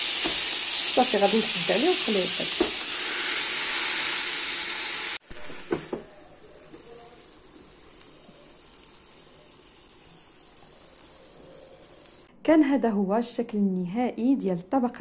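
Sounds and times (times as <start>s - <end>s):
fish sizzling on grill: 0.0s - 12.3s.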